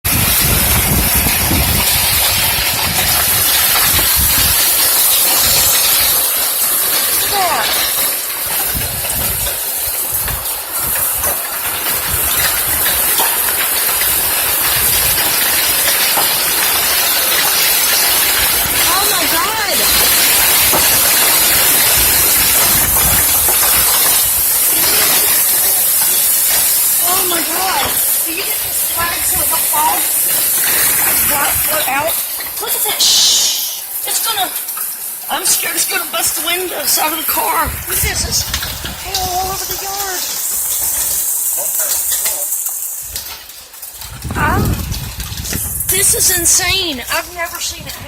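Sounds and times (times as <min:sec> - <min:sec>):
hail falling hard: 0:00.0 - 0:48.0.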